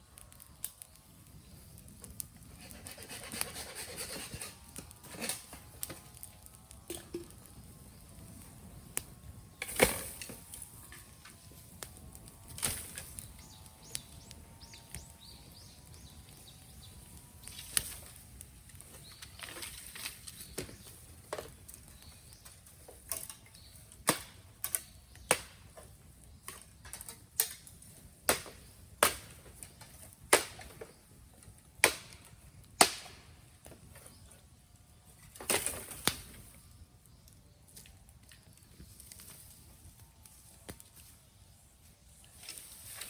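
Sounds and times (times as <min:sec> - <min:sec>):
bamboo cracking and popping in fire: 0:00.0 - 0:43.0.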